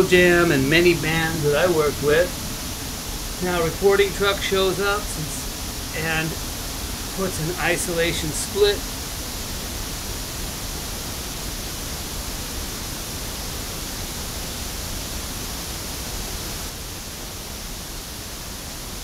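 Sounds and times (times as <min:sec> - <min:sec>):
pink noise from loudspeaker: 0:00.0 - 0:19.0.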